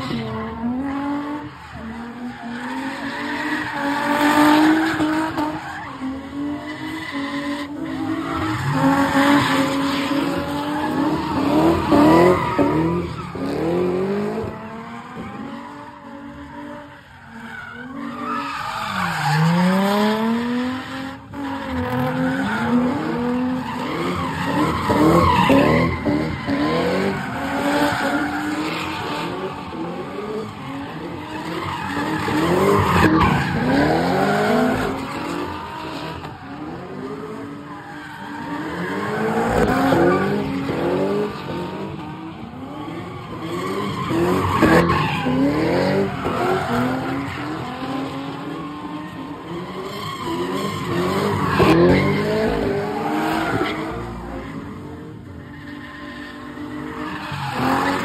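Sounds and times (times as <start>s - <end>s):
car engines revving: 0.0s - 58.0s
tires skidding and squealing: 0.0s - 58.0s.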